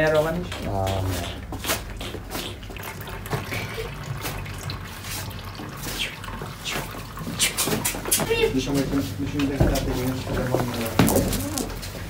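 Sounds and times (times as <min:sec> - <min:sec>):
wet churning and squelching paste: 0:00.0 - 0:12.0.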